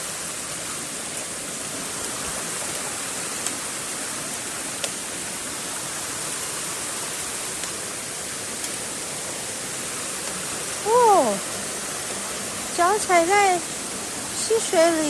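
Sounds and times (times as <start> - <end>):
waterfall and stream rushing: 0.0 - 15.0.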